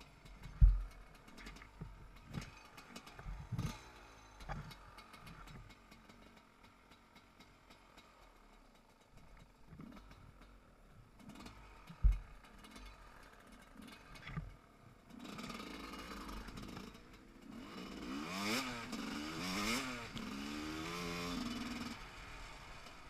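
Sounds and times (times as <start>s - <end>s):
motorcycle engine revving: 0.0s - 8.6s, 9.2s - 23.0s.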